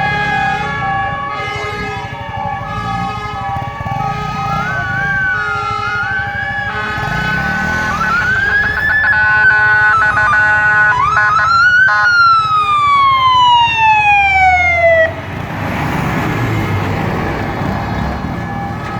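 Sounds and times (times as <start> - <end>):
engine and road noise: 0.0 - 18.9
fire engine siren wailing: 0.0 - 18.9.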